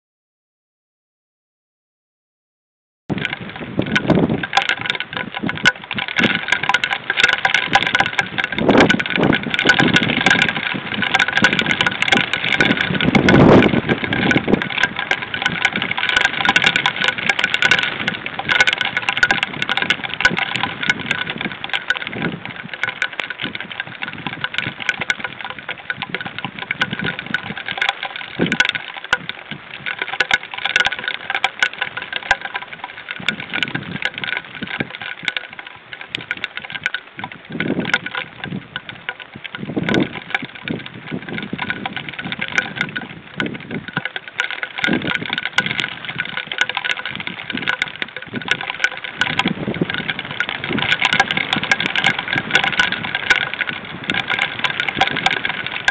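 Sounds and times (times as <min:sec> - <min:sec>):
heavy rain on microphone: 0:03.1 - 0:55.9.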